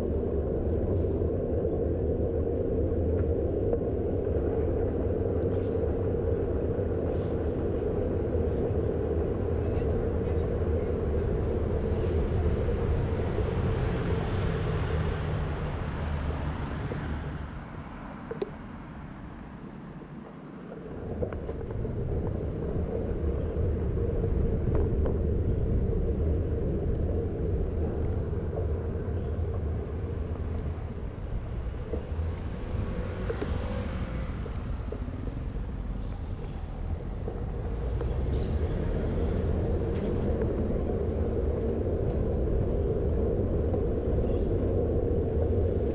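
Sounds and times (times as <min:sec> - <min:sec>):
bicycle tyre and road noise: 0:00.0 - 0:45.9
city traffic: 0:00.0 - 0:45.9
wind rumbling on microphone: 0:00.0 - 0:45.9.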